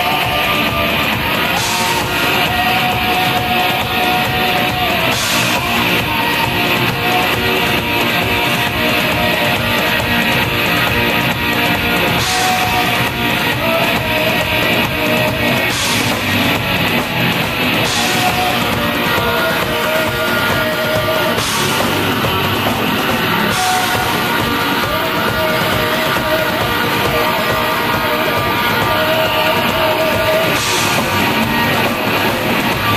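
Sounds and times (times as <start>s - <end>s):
drum kit: 0.0s - 32.9s
electric guitar: 0.0s - 32.9s.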